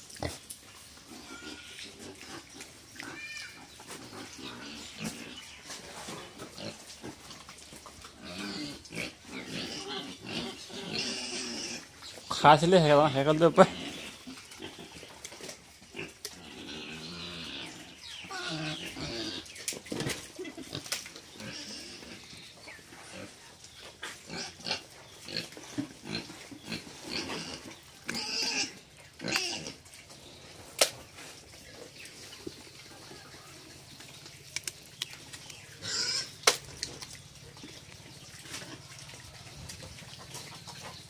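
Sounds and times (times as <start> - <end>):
pigs grunting: 1.0 - 15.1, 15.8 - 23.4, 24.0 - 30.7, 35.5 - 41.0.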